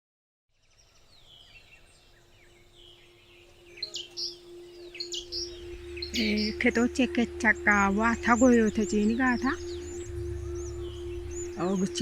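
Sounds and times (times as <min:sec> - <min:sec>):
birds chirping and calling: 0:00.7 - 0:12.0
faint steady hum: 0:01.8 - 0:12.0.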